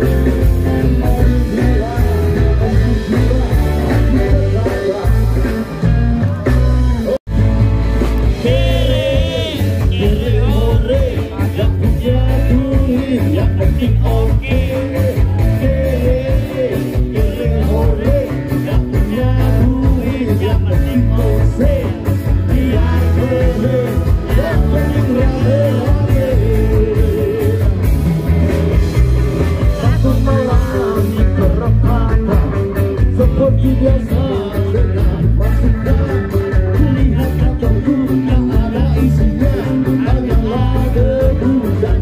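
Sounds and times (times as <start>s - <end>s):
person singing: 0.0s - 7.2s, 8.0s - 42.0s
ska band playing live: 0.0s - 42.0s.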